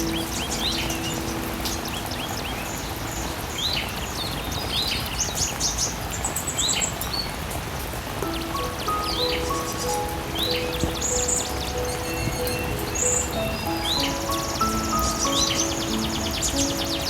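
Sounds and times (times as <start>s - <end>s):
small birds chirping: 0.0s - 7.4s, 8.2s - 17.0s
rain spraying hiss: 0.0s - 17.0s.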